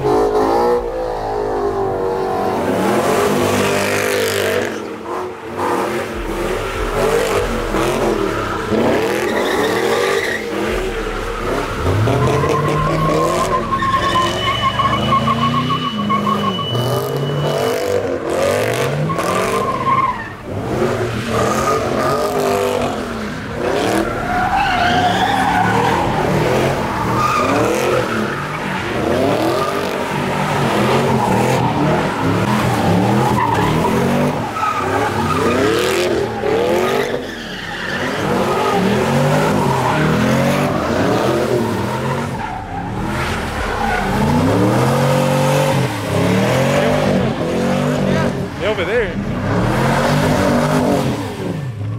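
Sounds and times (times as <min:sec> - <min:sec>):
car engines revving: 0:00.0 - 0:51.9
tyres squealing on pavement: 0:06.4 - 0:51.9.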